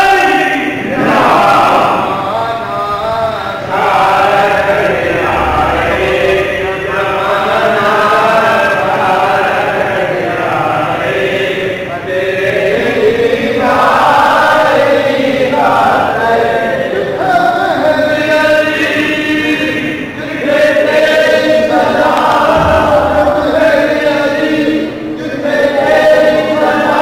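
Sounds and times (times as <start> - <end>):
men chanting together: 0.0 - 27.0.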